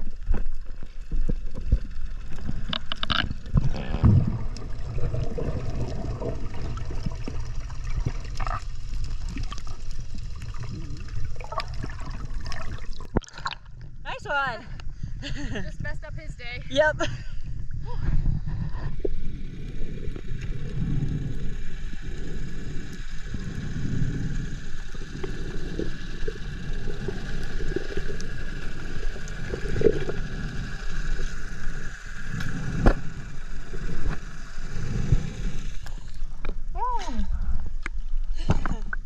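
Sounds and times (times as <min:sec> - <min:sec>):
underwater rumble with gurgling: 0:00.0 - 0:16.2, 0:16.9 - 0:39.0
faint steady hum: 0:00.0 - 0:39.0.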